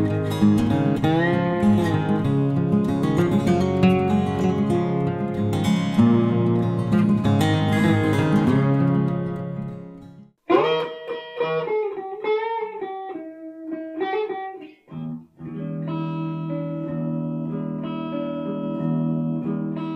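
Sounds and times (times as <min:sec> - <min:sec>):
guitar playing: 0:00.0 - 0:19.9.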